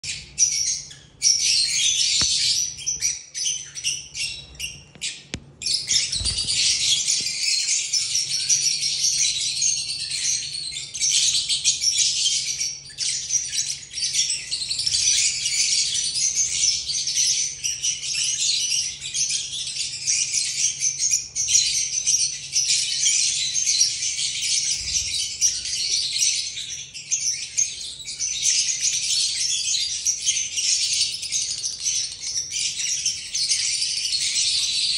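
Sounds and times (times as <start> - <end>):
lovebirds chattering: 0.0 - 34.9.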